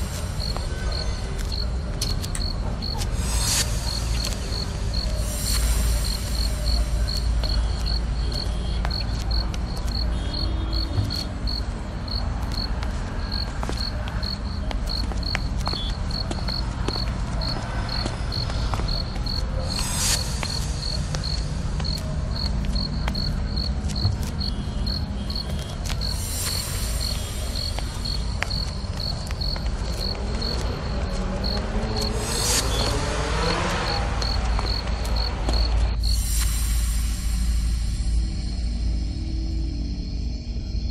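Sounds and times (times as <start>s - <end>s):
crickets chirping: 0.0s - 40.9s
low evening ambience rumble: 0.0s - 40.9s.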